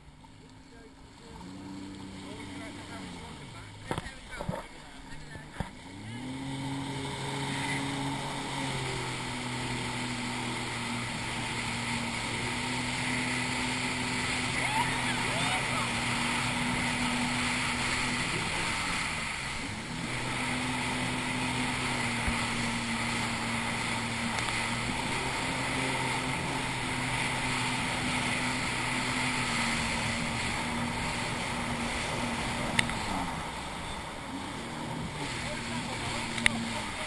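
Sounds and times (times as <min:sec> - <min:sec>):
jet ski engine running: 0:00.0 - 0:37.0
wind and rushing spray: 0:06.0 - 0:37.0.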